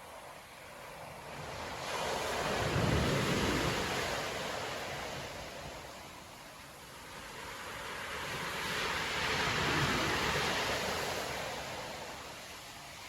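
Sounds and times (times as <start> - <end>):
wind over shore: 0.0 - 13.0.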